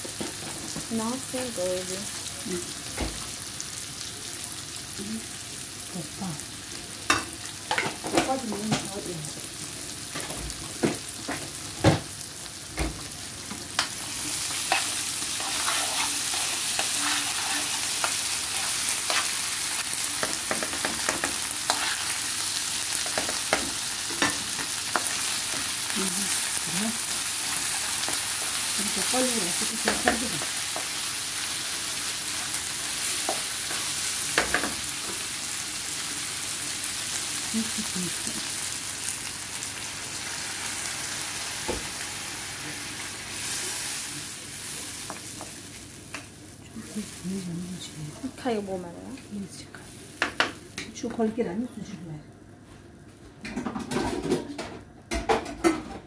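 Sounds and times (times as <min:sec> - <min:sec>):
vegetables sizzling in oil: 0:00.0 - 0:52.5.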